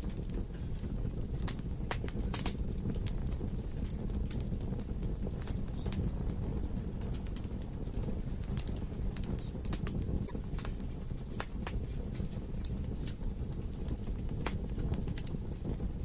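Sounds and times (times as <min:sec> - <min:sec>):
fire rumbling: 0:00.0 - 0:16.0
wood crackling and popping: 0:00.0 - 0:16.0.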